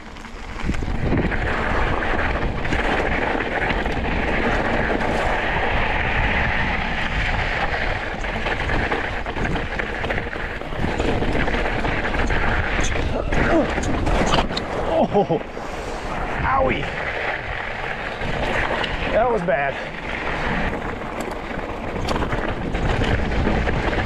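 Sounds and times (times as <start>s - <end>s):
bike knocks and rattles: 0.0s - 16.0s, 16.8s - 24.0s
tyres crunching over gravel: 0.0s - 24.0s
wind on microphone: 0.0s - 24.0s.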